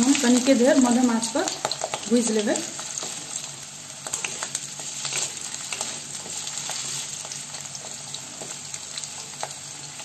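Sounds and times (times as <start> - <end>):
potatoes sizzling in oil: 0.0 - 10.0.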